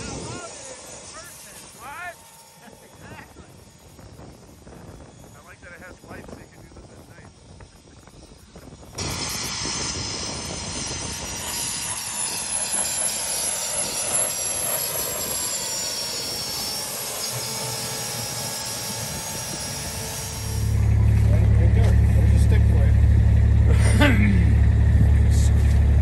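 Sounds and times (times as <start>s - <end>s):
gas turbine tractor whine: 0.0s - 26.0s.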